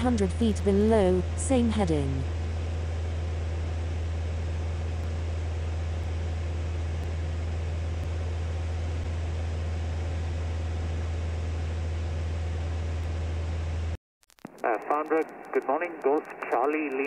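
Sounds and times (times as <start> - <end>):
light aircraft engine drone: 0.0 - 14.0.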